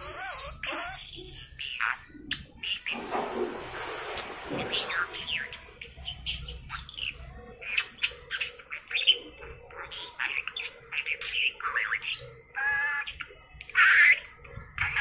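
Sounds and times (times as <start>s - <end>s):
budgerigar chattering and warbling: 0.0s - 3.0s, 4.6s - 15.0s.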